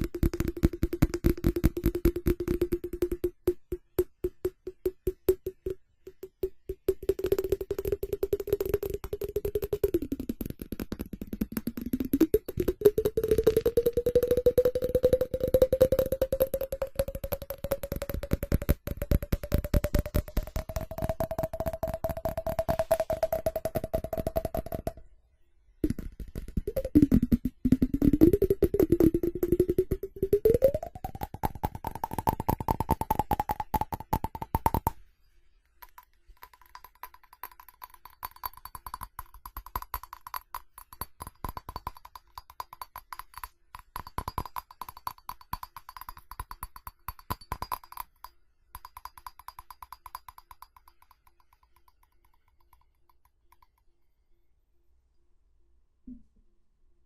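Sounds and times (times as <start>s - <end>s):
fast tapping on ceramic: 0.0s - 25.1s, 25.8s - 35.0s, 35.8s - 53.8s.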